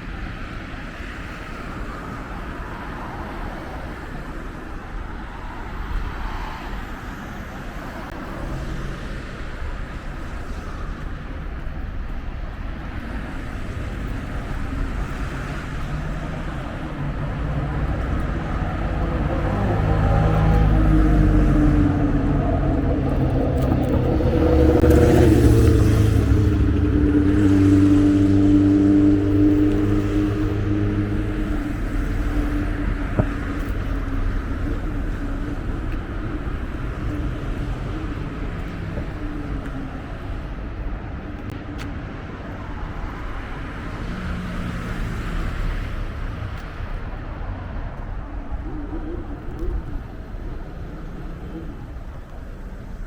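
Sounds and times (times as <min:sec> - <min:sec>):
traffic rumble: 0:00.0 - 0:53.0
vehicle engine hum: 0:00.0 - 0:53.0.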